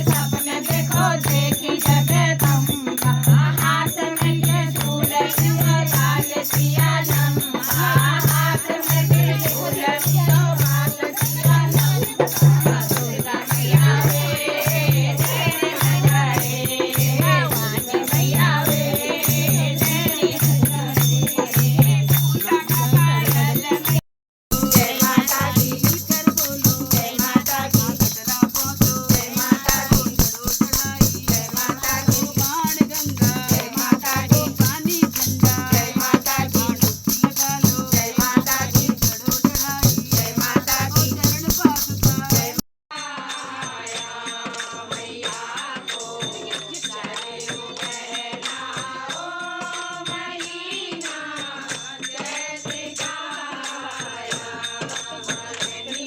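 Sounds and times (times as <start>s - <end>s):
devotional singing: 0.0s - 56.0s
rattling shaker-like percussion: 0.0s - 56.0s.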